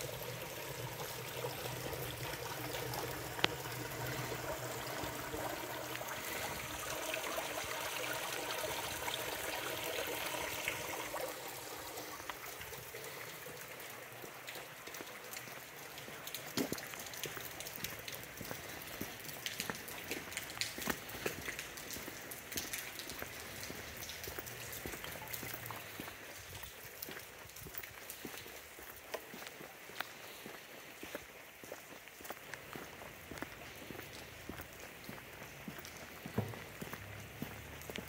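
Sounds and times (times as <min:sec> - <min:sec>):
rain on a wet street: 0:00.0 - 0:38.0
water running and trickling: 0:00.0 - 0:38.0.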